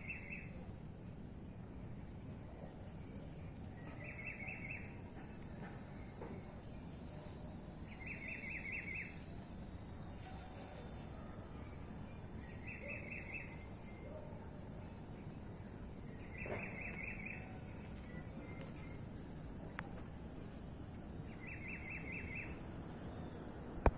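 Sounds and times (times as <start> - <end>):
high insect drone: 0.0 - 23.9
low outdoor background noise: 0.0 - 23.9.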